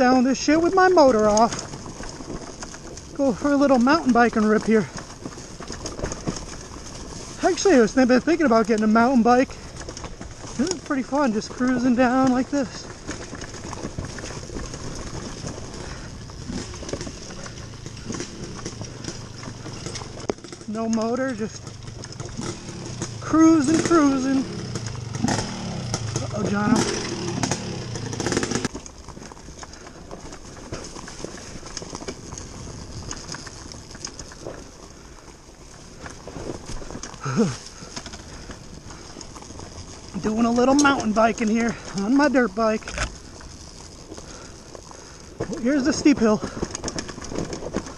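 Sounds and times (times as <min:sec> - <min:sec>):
bike rattling and knocking: 0:00.0 - 0:47.9
tyres crunching over loose rocks: 0:00.0 - 0:47.9.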